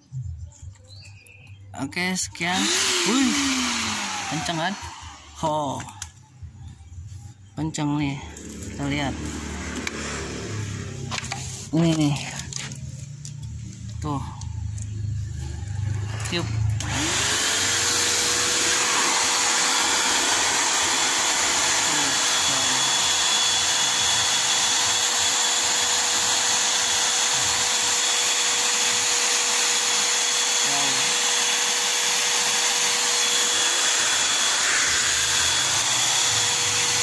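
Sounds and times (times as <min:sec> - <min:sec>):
vacuum cleaner motor whine: 0:02.4 - 0:06.1, 0:08.3 - 0:12.8, 0:14.8 - 0:37.0.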